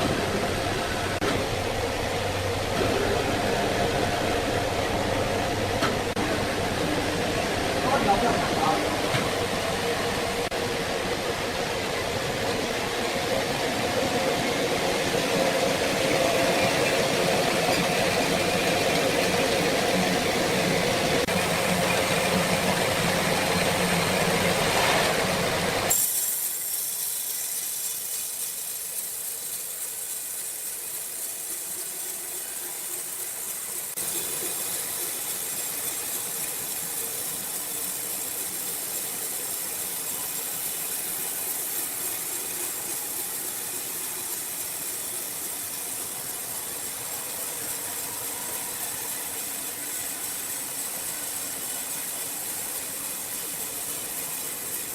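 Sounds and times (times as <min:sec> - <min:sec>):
hissing machine: 0:00.0 - 0:54.9
sawmill machinery running: 0:00.0 - 0:54.9.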